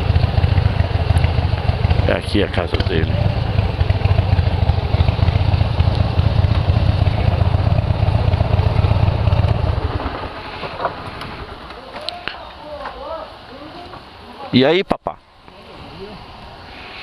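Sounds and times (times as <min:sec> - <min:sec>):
motorcycle idling: 0:00.0 - 0:14.4.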